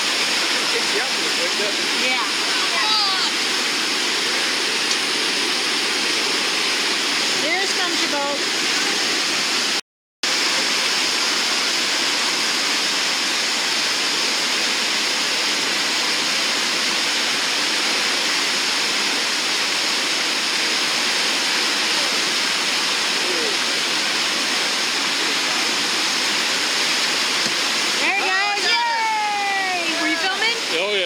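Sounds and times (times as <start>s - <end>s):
whitewater rapids rushing: 0.0s - 31.0s.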